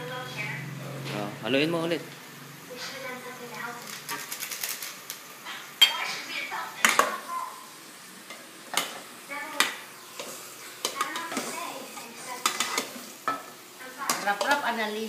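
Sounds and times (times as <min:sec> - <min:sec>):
meat sizzling: 0:00.0 - 0:15.0.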